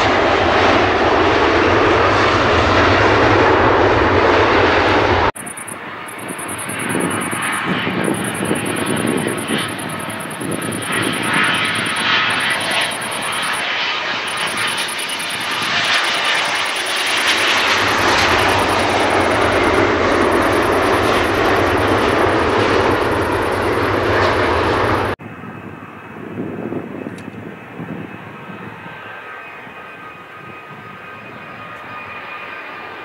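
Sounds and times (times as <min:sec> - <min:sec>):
distant approaching airliner: 0:00.0 - 0:33.0
jet engines of landing airliner: 0:00.0 - 0:33.0.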